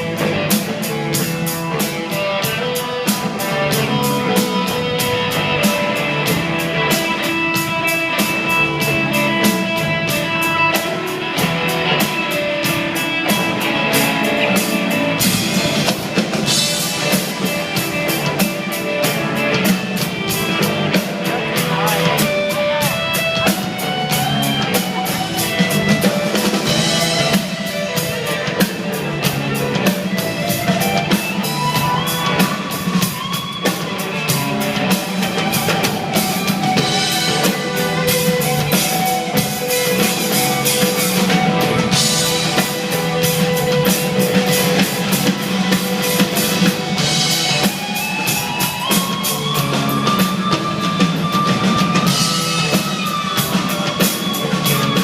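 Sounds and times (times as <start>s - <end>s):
drum-kit beat: 0.0s - 55.0s
guitar with sliding melody notes: 0.0s - 55.0s.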